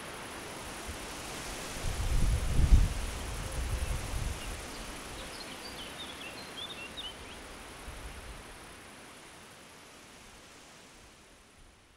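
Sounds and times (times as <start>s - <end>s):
outdoor hiss: 0.0s - 11.9s.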